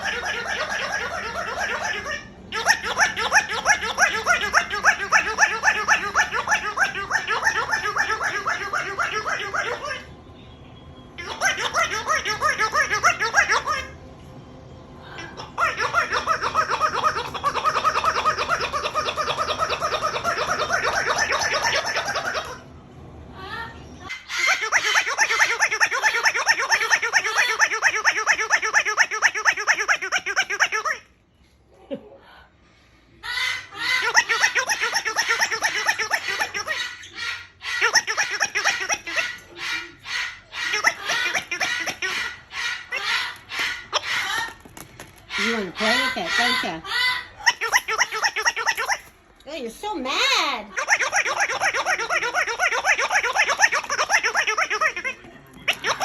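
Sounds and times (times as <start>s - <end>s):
electronic toy laughter: 0.0s - 10.1s, 11.2s - 14.0s, 15.2s - 22.7s, 24.1s - 31.1s, 33.2s - 44.5s, 45.4s - 49.1s, 50.7s - 56.0s.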